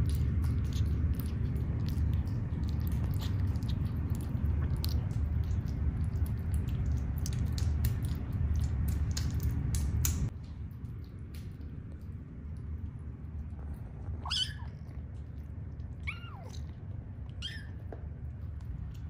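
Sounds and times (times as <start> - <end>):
kittens chewing clicks: 0.0 - 19.0
steady low rumble: 0.0 - 19.0.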